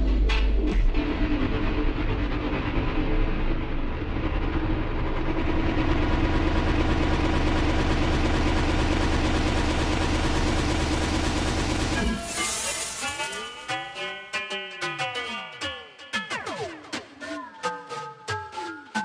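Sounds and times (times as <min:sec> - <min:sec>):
distorted electronic music: 0:00.0 - 0:07.5, 0:08.7 - 0:19.0.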